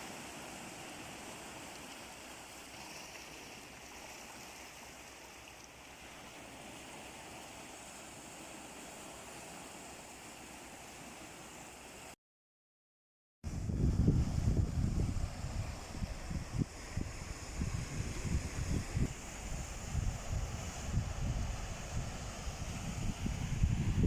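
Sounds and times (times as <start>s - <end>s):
surf washing on shore: 0.0s - 12.2s, 13.5s - 24.0s.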